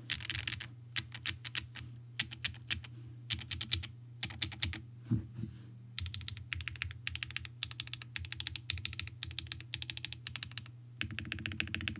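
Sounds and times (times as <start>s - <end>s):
low steady hum: 0.0s - 11.9s
mechanical keyboard typing: 0.1s - 4.8s, 6.0s - 11.9s.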